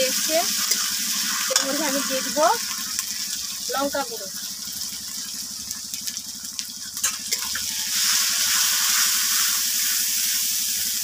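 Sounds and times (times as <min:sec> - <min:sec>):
masala sizzling in a wok: 0:00.0 - 0:11.0.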